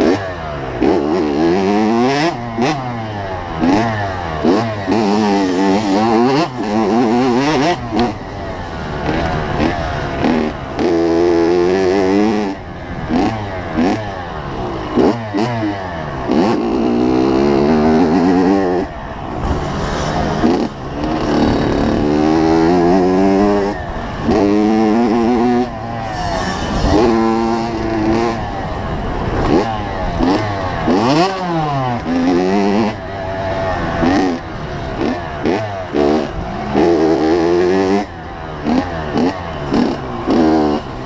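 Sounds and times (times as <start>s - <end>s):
two-stroke dirt bike engine revving: 0.0s - 41.0s.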